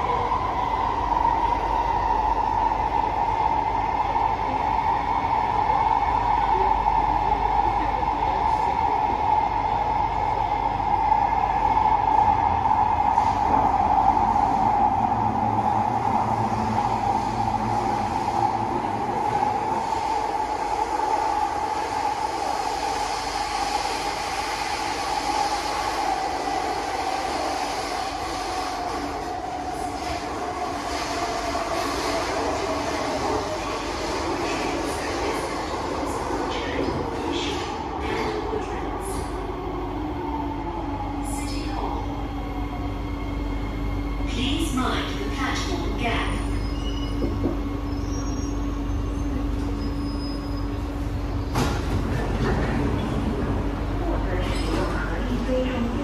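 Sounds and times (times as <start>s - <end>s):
metro train whine: 0.0s - 56.0s
train car rumble: 0.0s - 56.0s.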